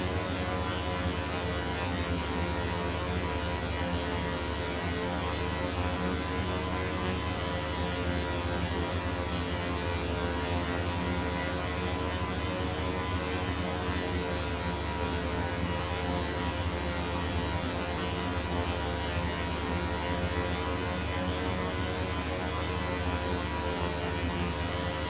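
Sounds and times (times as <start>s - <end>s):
buzzing chord drone: 0.0s - 25.0s.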